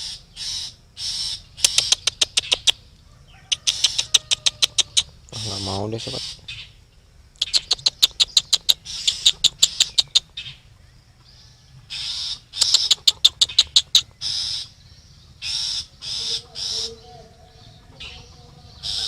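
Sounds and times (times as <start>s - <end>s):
bird harsh chattering: 0.0s - 10.8s, 11.9s - 19.0s
bird rasping calls: 0.0s - 19.0s.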